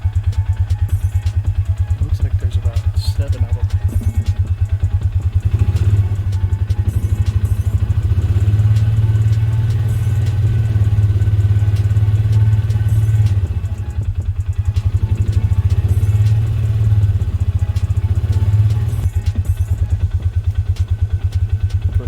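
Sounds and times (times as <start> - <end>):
off-road vehicle engine throbbing: 0.0 - 22.0.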